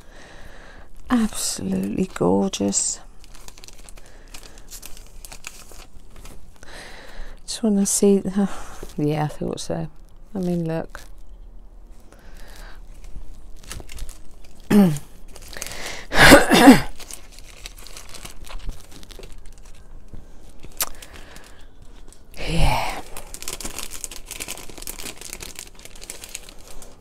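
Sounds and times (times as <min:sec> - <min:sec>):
paper crinkling and rustling: 0:00.9 - 0:07.1, 0:08.8 - 0:27.0.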